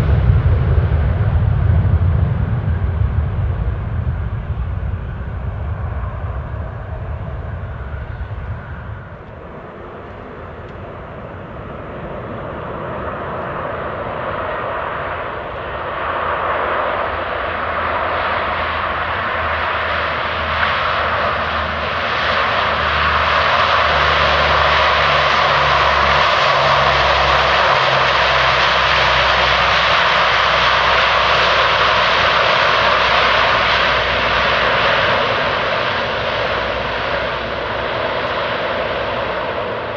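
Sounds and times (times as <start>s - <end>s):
turboprop aircraft engines: 0.0s - 39.9s.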